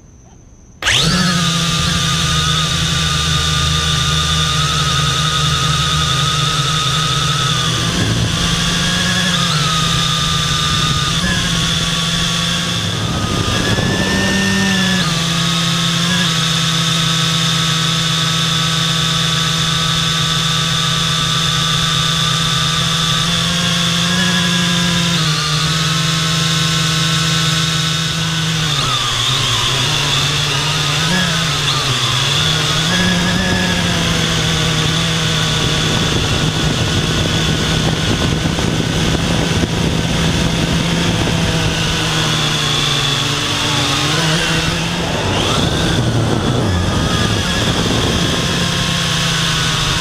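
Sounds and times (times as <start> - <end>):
drone motors and propellers whining: 0.0 - 50.0.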